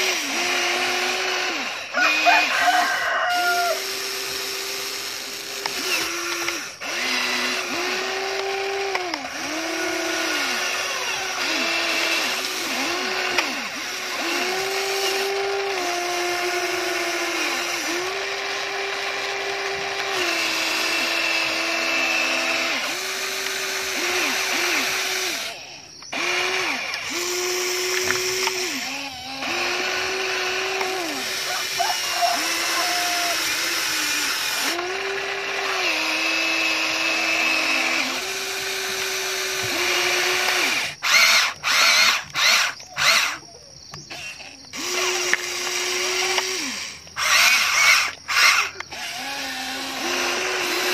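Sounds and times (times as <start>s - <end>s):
electric motors whining: 0.0s - 50.9s.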